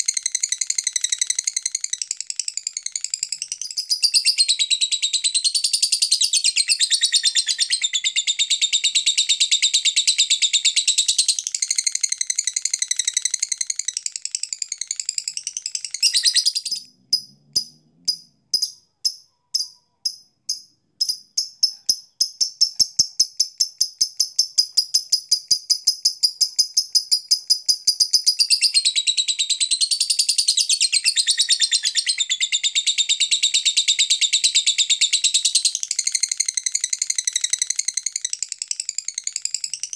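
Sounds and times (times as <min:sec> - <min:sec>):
sharp bird chirps: 0:00.0 - 0:39.9
lovebird chattering: 0:00.4 - 0:39.9.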